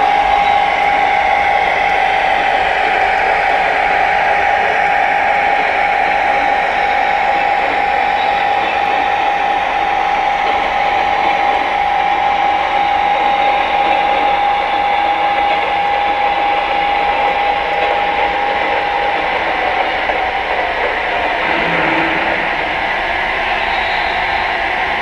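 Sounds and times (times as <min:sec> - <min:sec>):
model train whirring: 0:00.0 - 0:25.0.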